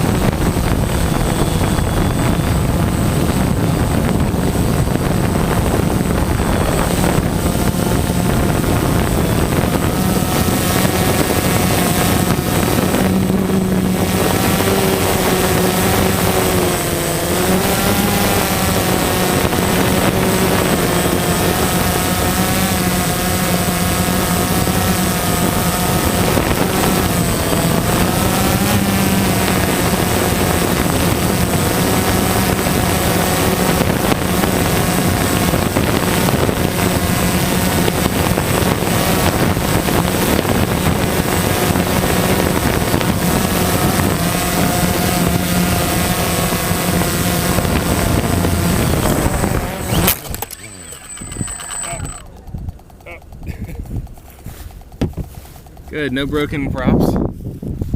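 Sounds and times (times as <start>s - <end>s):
drone propellers whirring: 0.0s - 57.9s
wind noise on microphone: 0.0s - 57.9s.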